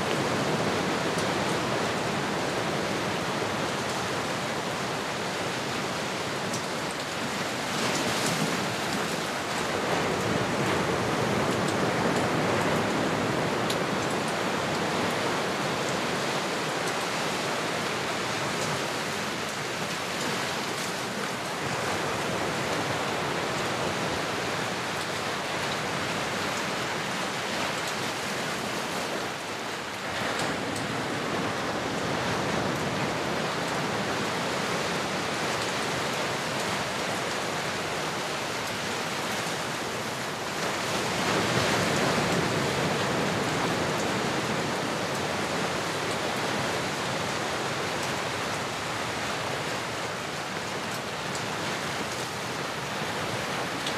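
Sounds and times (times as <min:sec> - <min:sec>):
ocean waves washing in: 0:00.0 - 0:53.9.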